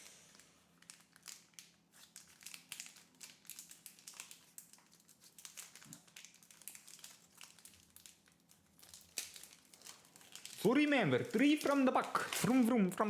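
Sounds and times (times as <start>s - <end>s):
crinkling of card pack: 0.0s - 13.0s.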